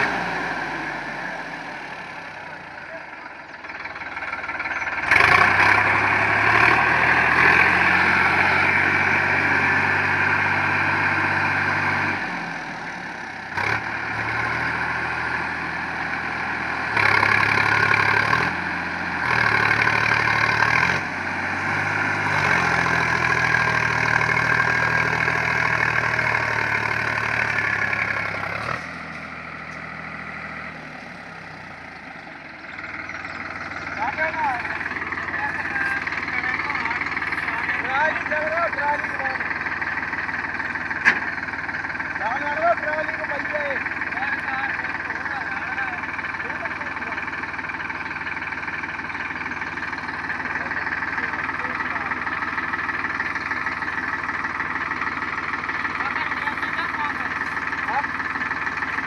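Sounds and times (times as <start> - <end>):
tractor diesel engine working hard: 0.0 - 59.0.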